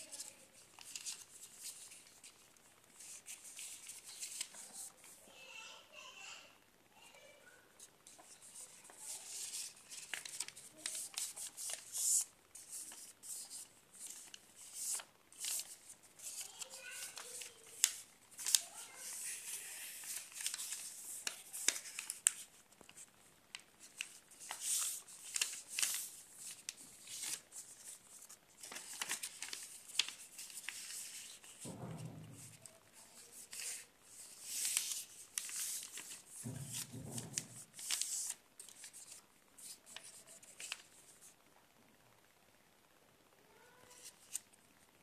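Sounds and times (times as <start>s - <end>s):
paper crackling as folded: 0.0s - 5.2s, 8.1s - 31.8s, 32.4s - 41.0s, 43.9s - 44.5s
paper rustling and crinkling: 0.0s - 5.2s, 8.1s - 41.0s.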